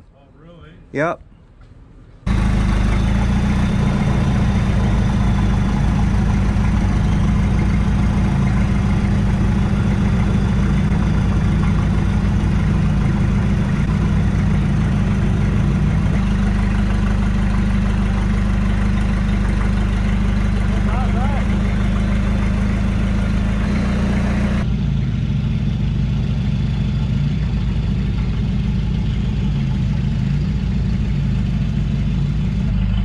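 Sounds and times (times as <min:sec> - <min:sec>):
engine idling: 0:02.2 - 0:33.0.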